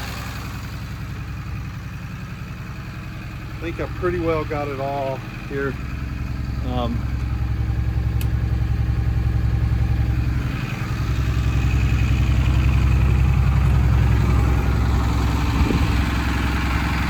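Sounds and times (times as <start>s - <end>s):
bus engine idling: 0.0s - 17.0s.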